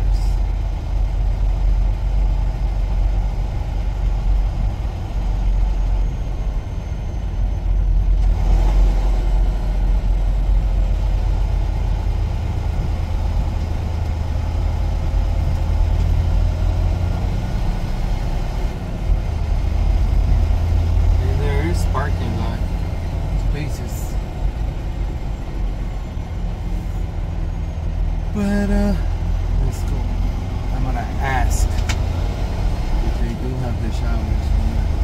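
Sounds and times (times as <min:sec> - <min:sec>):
diesel truck engine rumbling: 0:00.0 - 0:35.0.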